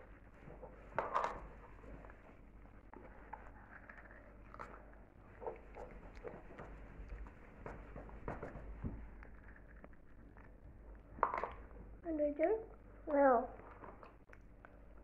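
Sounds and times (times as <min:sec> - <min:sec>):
children chewing and crunching cookies: 0:00.0 - 0:15.0.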